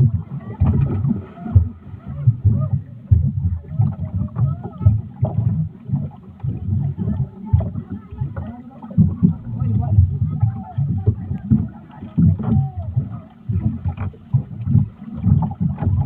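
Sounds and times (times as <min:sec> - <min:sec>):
voices: 0:00.0 - 0:05.5, 0:06.4 - 0:14.1
choppy boat rumble: 0:00.0 - 0:16.0.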